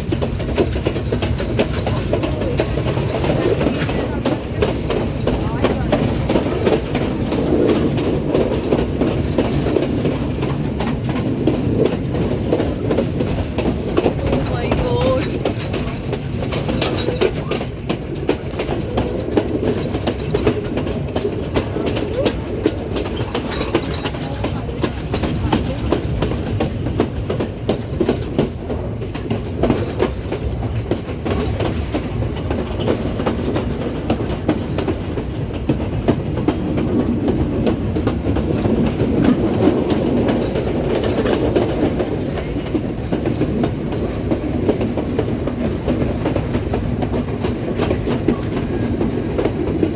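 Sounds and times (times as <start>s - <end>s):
train carriages rumbling: 0.0s - 49.9s
wheels clacking over rail joints: 0.0s - 49.9s.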